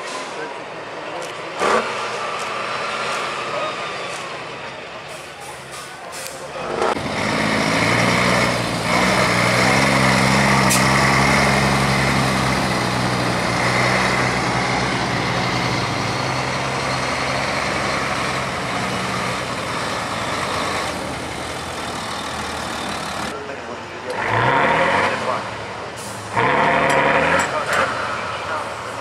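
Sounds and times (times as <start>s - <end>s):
truck diesel engine running: 0.2s - 29.0s.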